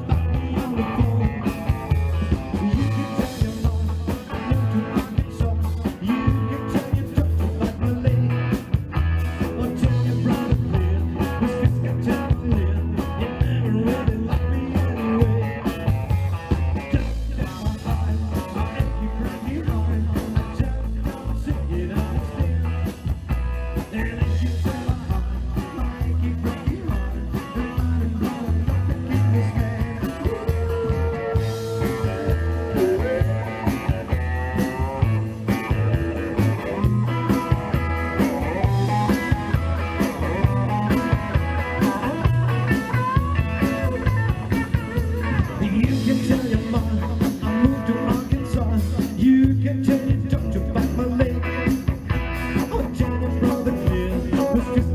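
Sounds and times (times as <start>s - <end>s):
person singing: 0.0s - 23.1s, 23.8s - 54.9s
electric guitars: 0.0s - 54.9s
upright double bass: 0.0s - 54.9s.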